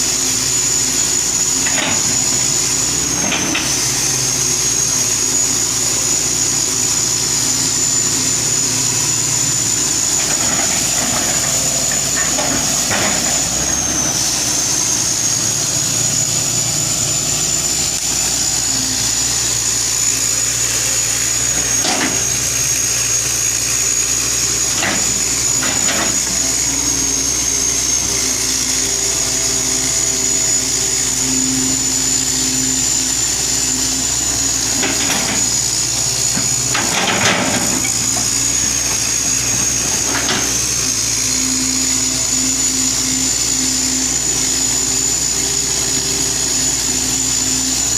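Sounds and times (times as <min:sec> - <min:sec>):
excavator running with whine: 0:00.0 - 0:47.9.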